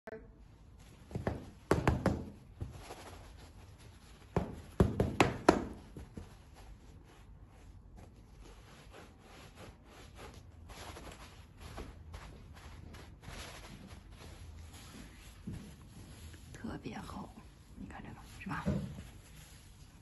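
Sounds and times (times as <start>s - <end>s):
rubbing and rustling of fur: 0.7s - 20.0s.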